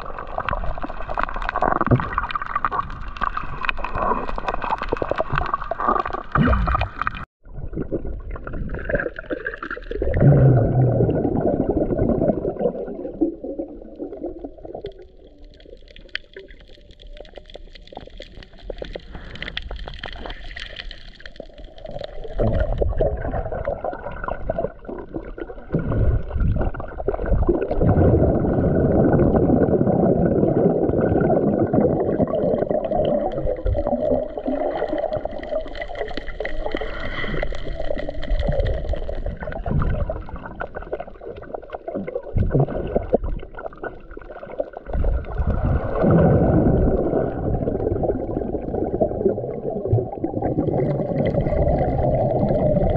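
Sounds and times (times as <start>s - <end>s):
underwater moving water bubbling: 0.0s - 52.9s.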